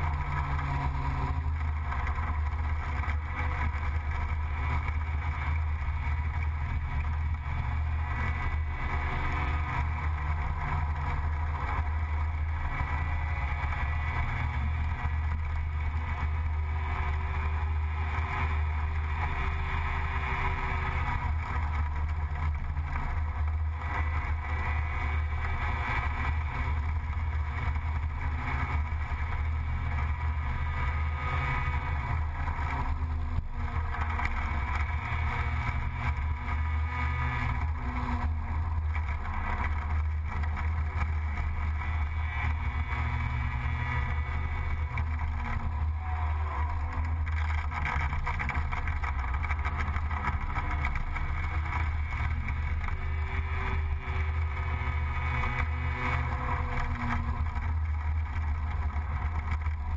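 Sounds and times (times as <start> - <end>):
scooter engine running: 0.0 - 59.9.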